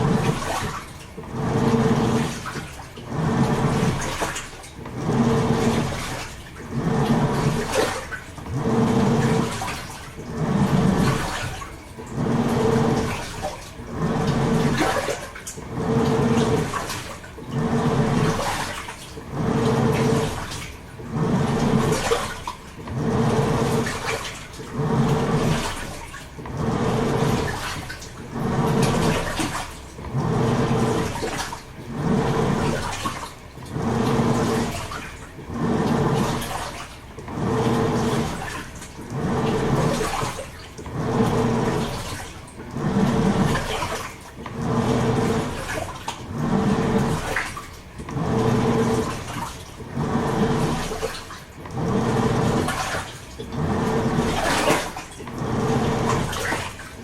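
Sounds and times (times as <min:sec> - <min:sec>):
washing machine motor humming: 0:00.0 - 0:57.0
water churning and sloshing: 0:00.0 - 0:57.0.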